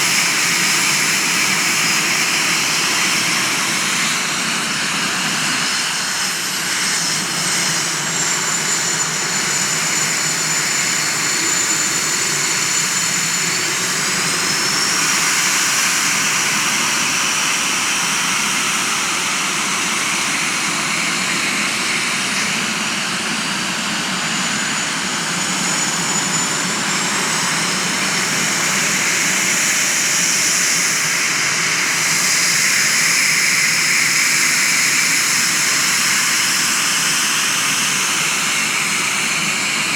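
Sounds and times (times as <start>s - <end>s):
high turbine whine: 0.0s - 39.9s.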